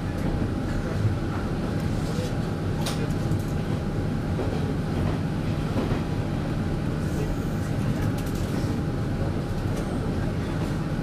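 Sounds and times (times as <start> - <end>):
train engine and wheel rumble: 0.0 - 11.0.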